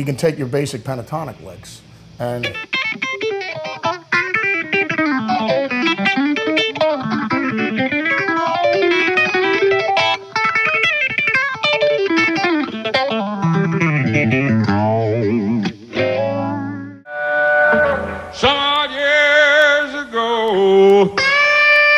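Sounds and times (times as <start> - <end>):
electric guitar licks: 1.8 - 21.9.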